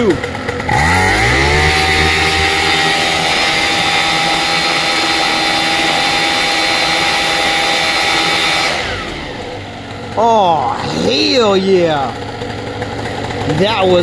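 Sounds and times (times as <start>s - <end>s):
paramotor engine at high pitch: 0.0s - 14.0s.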